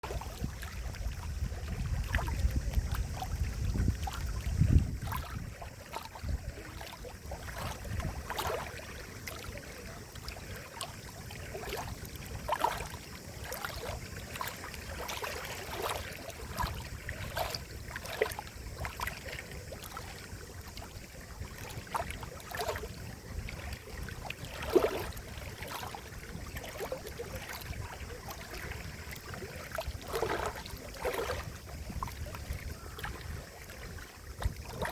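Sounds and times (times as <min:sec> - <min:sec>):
water gurgling and plopping: 0:00.0 - 0:34.9.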